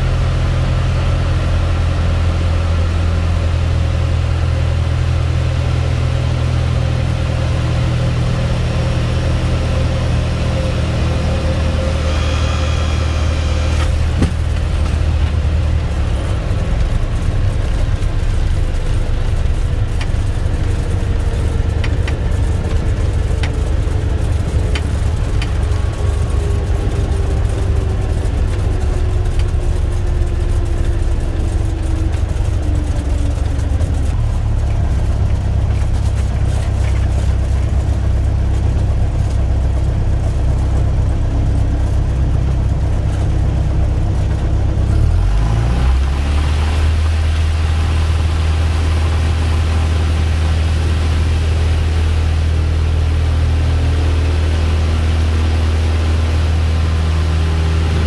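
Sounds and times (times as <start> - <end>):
light aircraft piston engine: 3.9 - 58.0.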